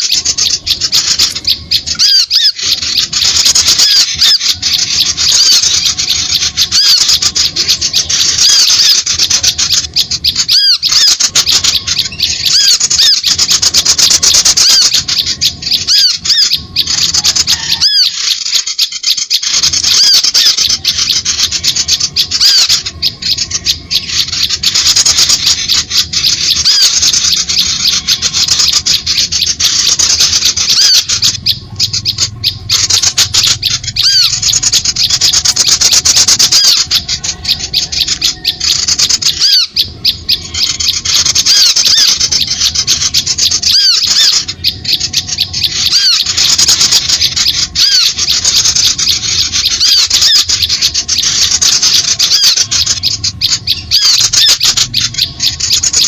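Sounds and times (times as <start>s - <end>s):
small birds chattering: 0.0s - 56.0s.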